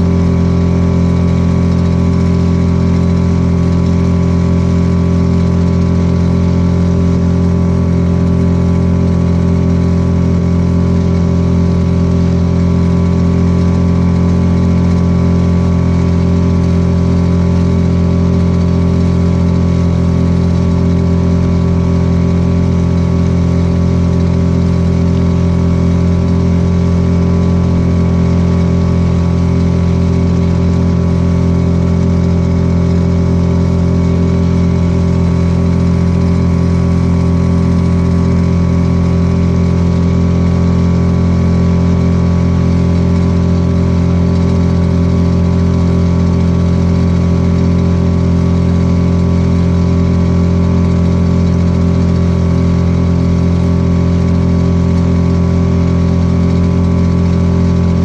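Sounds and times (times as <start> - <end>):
small outboard motor running: 0.0 - 58.0.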